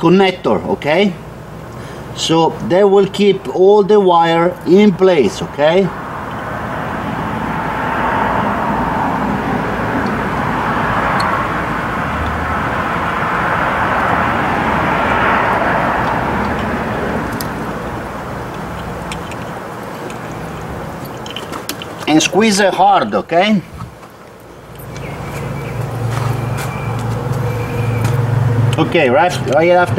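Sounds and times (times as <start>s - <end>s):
passing vehicle: 5.4s - 29.9s.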